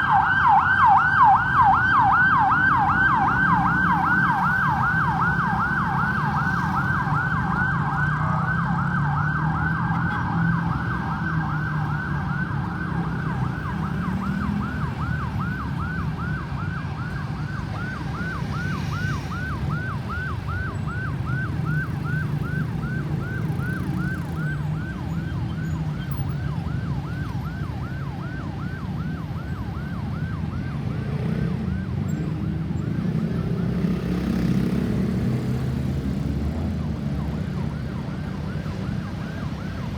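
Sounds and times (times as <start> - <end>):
ambulance siren yelping: 0.0 - 39.9
low traffic rumble: 0.0 - 39.9.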